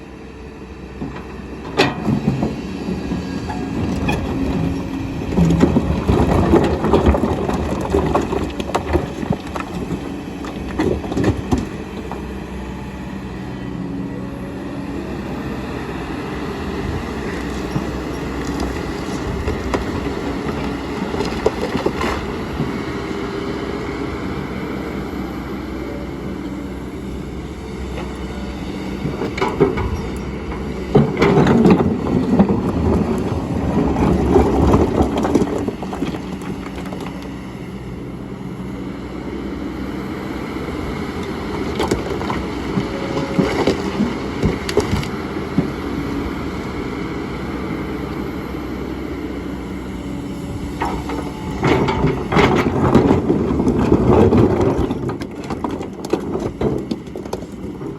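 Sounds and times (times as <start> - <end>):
excavator engine running: 0.0 - 57.9
rough rumbling and clunking: 0.0 - 57.9.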